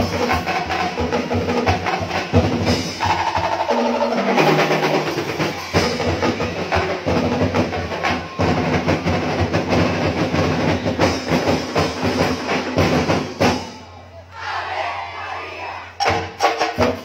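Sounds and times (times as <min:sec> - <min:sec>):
music with fast drumming: 0:00.0 - 0:13.9, 0:16.0 - 0:17.0.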